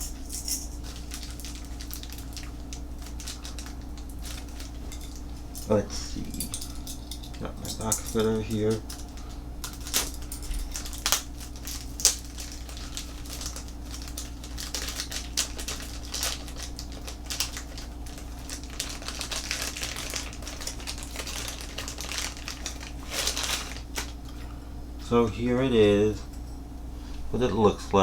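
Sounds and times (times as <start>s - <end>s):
packaging clicks and crinkles: 0.0s - 5.8s, 6.4s - 24.3s
steady low hum: 0.0s - 28.0s.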